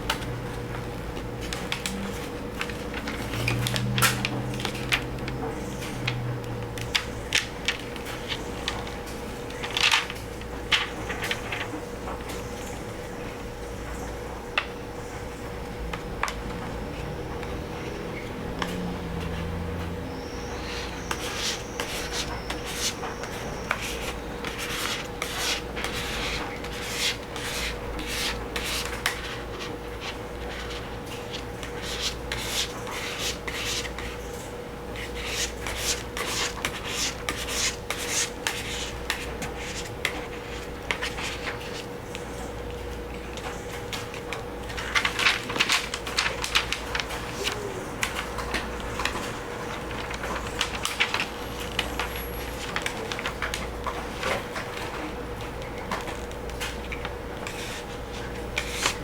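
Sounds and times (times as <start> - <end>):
faint hum: 0.0 - 56.0.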